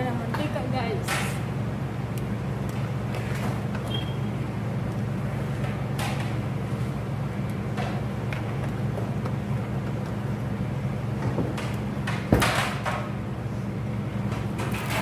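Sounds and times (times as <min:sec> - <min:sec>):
gas stove low hum: 0:00.0 - 0:15.0.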